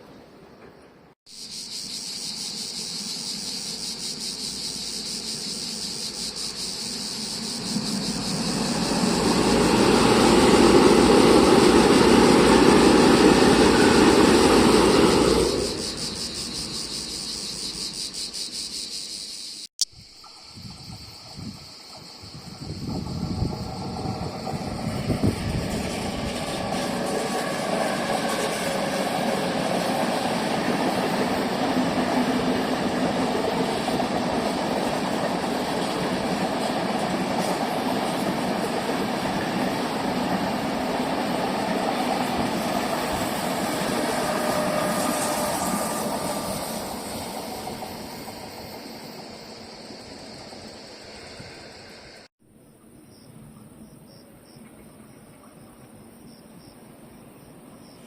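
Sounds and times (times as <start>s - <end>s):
train passing: 0.0s - 19.5s, 20.2s - 52.3s.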